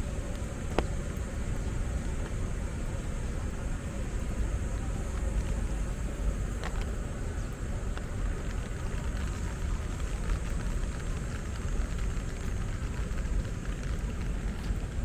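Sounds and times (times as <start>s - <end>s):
faint light ticks: 0.0s - 15.0s
low city rumble: 0.0s - 15.0s
steady high whine: 0.0s - 15.0s.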